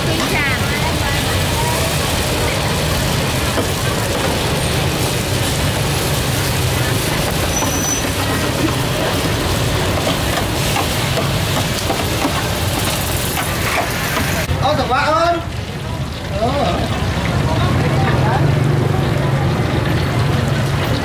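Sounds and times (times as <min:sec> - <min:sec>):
background chatter: 0:00.0 - 0:21.0.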